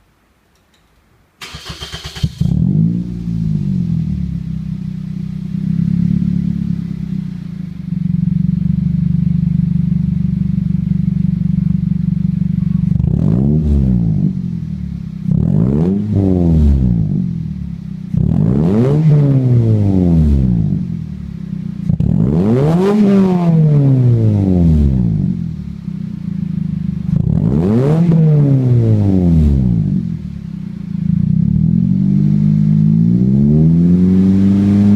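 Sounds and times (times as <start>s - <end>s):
car engine idling and revving: 1.6s - 34.9s.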